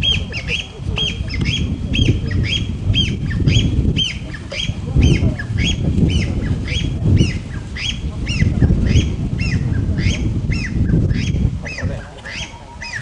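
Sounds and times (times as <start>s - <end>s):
bird calling: 0.0s - 13.0s
low rumbling noise: 0.0s - 13.0s.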